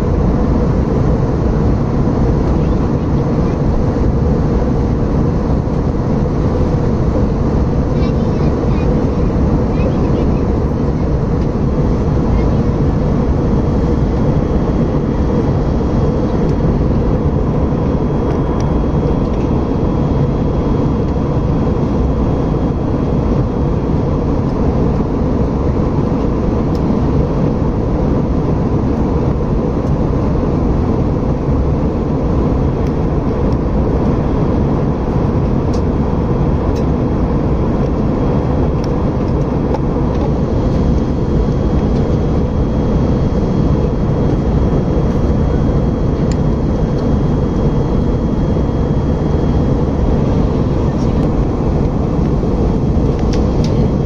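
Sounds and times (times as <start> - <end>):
airliner cabin jet engine rush: 0.0 - 54.0
faint steady whine: 0.0 - 54.0.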